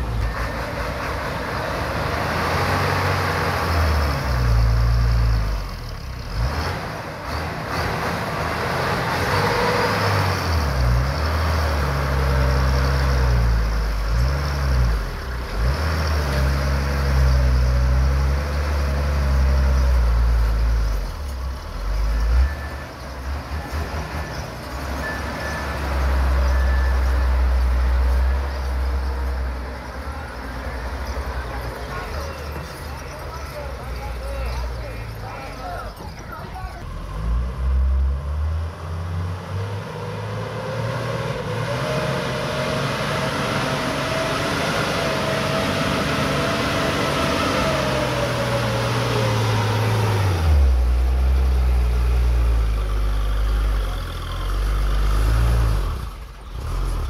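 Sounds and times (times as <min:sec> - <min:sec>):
truck diesel engine revving: 0:00.0 - 0:36.2, 0:36.8 - 0:57.0.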